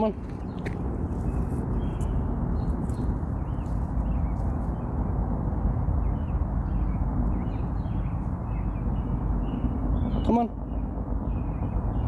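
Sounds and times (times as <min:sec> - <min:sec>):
birds chirping faintly: 0:00.0 - 0:12.0
steady low rumble: 0:00.0 - 0:12.0.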